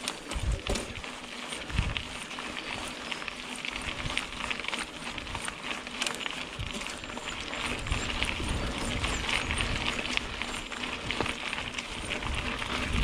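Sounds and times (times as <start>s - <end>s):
bike clicks and rattles: 0.0s - 13.0s
bike tyres on dirt trail: 0.0s - 13.0s.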